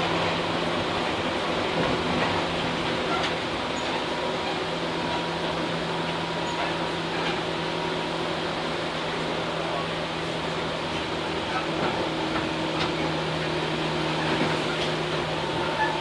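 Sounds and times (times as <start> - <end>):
train car hum and rumble: 0.0 - 16.0.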